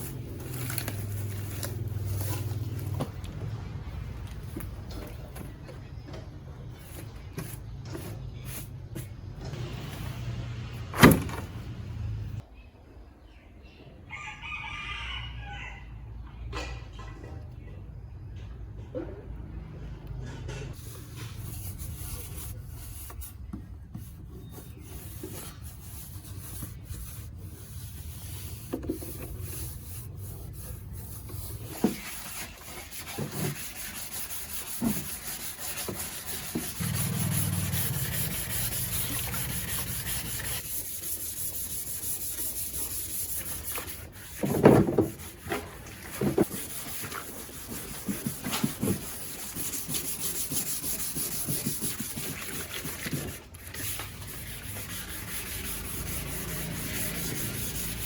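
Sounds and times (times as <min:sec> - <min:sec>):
rubbing and scraping on surface: 0:00.0 - 0:06.0, 0:06.6 - 0:10.0, 0:20.7 - 0:58.0.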